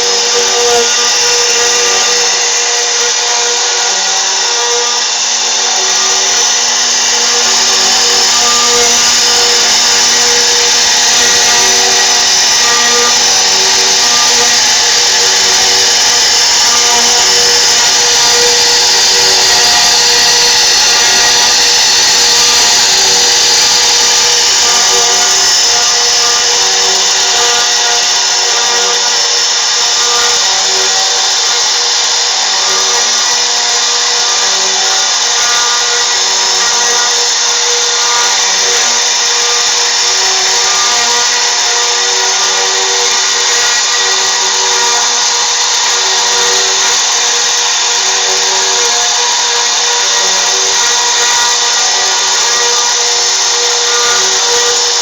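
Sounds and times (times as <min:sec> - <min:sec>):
router spindle whining: 0:00.0 - 0:55.0.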